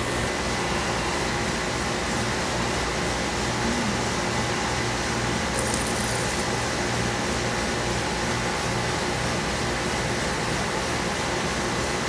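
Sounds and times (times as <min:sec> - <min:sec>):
fan whooshing and humming: 0:00.0 - 0:12.0.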